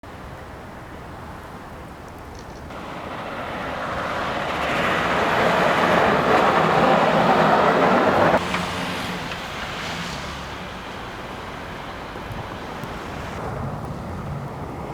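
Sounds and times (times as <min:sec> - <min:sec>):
vehicle driving past on snow: 0:02.7 - 0:14.9.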